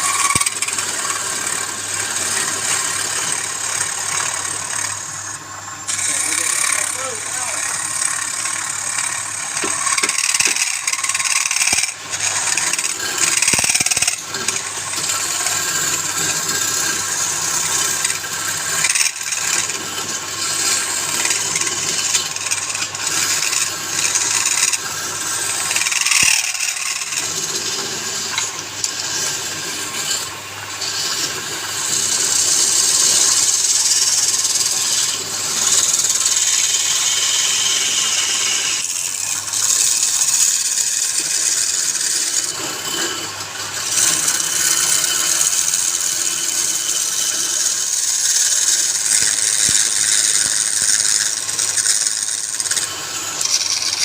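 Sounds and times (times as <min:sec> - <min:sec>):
tool rasping spinning wood: 0:00.0 - 0:54.0
wood lathe motor hum: 0:00.0 - 0:54.0.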